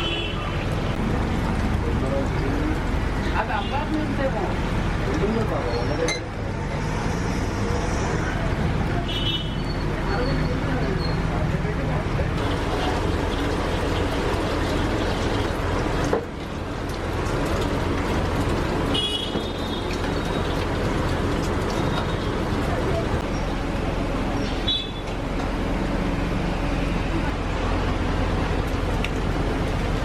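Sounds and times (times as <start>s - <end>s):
roadside traffic hum: 0.0s - 30.0s.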